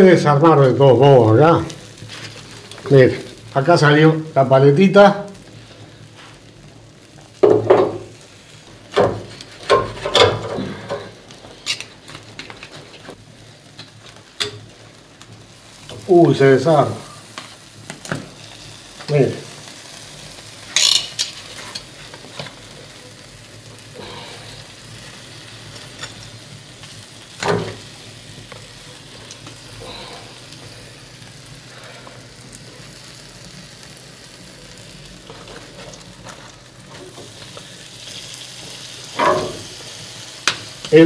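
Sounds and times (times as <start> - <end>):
meat sizzling on a grill: 0.0 - 41.0.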